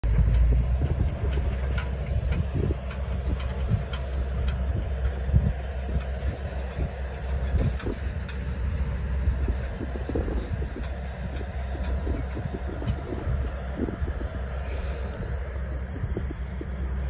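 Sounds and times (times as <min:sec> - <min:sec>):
clanks and rattles: 0:00.0 - 0:14.4
truck engine rumbling: 0:00.0 - 0:17.0.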